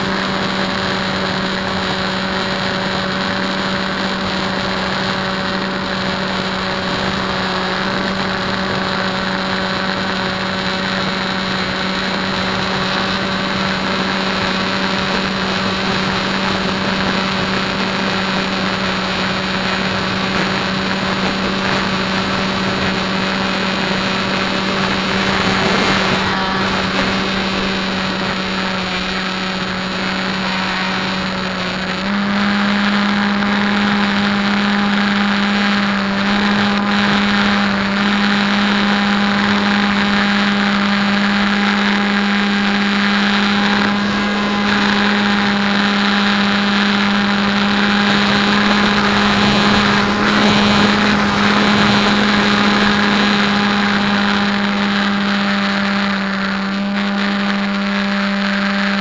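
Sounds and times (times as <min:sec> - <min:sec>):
electric motor and propeller whirring: 0:00.0 - 0:59.0.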